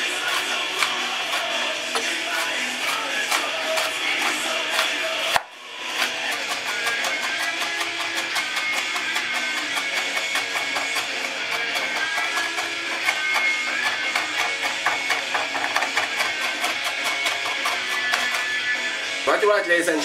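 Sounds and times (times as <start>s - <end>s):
guitar background music: 0.0s - 20.0s.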